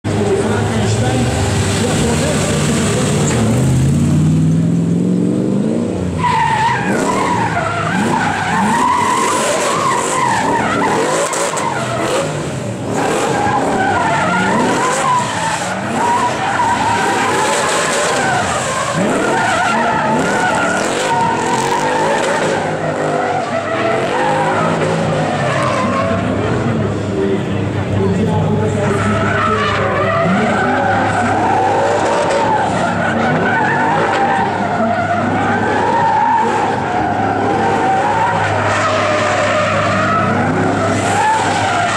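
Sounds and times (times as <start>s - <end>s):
car engine revving hard: 0.1s - 27.2s, 28.6s - 41.9s
tyres squealing: 6.2s - 26.6s, 28.6s - 41.9s.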